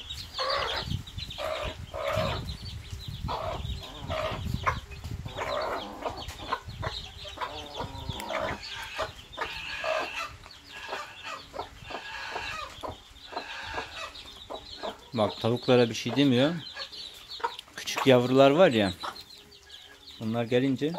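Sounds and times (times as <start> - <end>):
chicks peeping: 0.0 - 20.9
hen clucking: 0.0 - 20.9.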